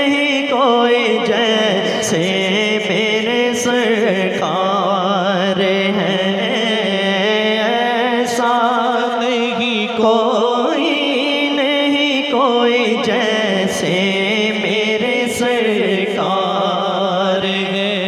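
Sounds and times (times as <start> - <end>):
man singing into microphone: 0.0 - 18.0.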